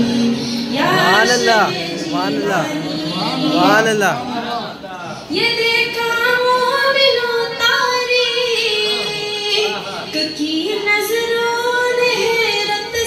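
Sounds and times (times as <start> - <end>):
woman singing into a microphone: 0.0 - 3.7, 5.3 - 13.0.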